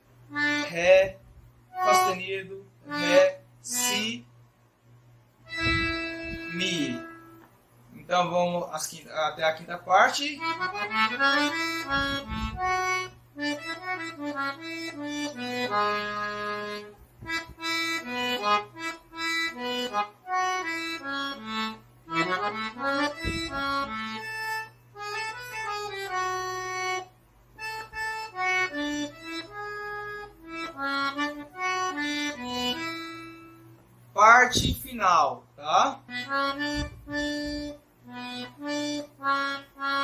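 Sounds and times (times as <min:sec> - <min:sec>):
accordion melody: 0:00.0 - 0:04.3, 0:05.4 - 0:07.5, 0:09.3 - 0:34.8, 0:35.9 - 0:40.0.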